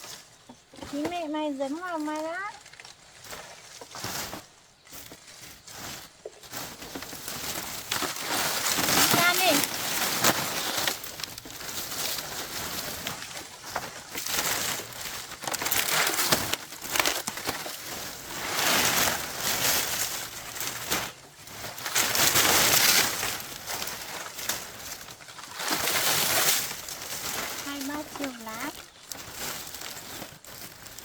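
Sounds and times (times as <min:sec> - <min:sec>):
dry leaves rustling: 0:00.0 - 0:31.0.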